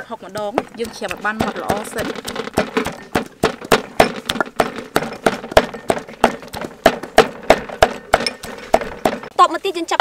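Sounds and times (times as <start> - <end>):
cleaver chopping meat on wood: 0.3 - 9.3.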